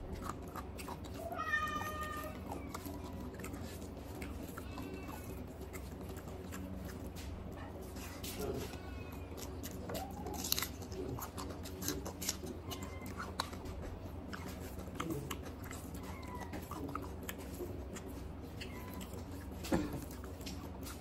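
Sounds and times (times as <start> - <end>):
fingers mixing rice: 0.0 - 21.0
person chewing with mouth clicks: 0.0 - 21.0
steady low hum: 0.0 - 21.0.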